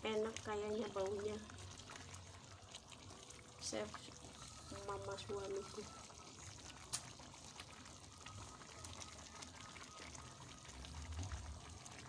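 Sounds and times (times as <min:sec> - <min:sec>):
sauce bubbling in wok: 0:00.0 - 0:12.0.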